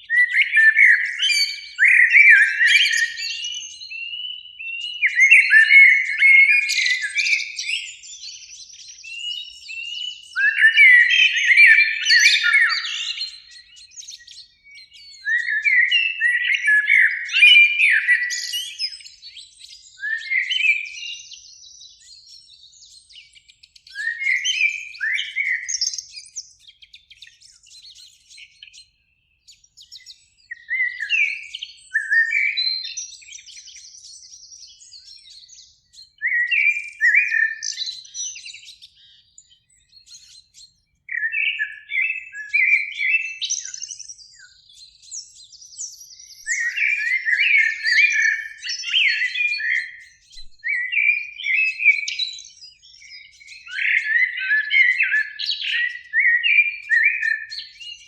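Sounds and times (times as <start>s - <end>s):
blackbird singing: 0.0s - 58.0s.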